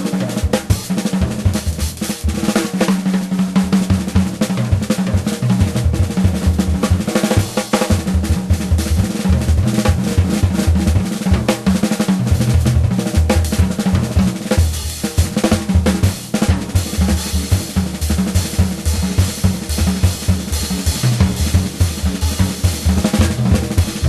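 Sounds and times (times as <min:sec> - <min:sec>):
music with driving drum beat: 0:00.0 - 0:24.0.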